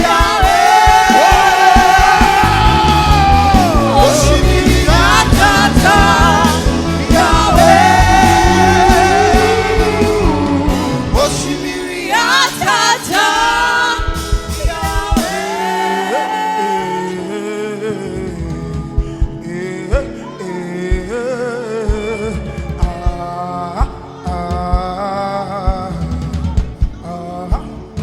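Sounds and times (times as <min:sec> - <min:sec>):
band accompaniment: 0:00.0 - 0:28.0
person singing with vibrato: 0:00.0 - 0:28.0.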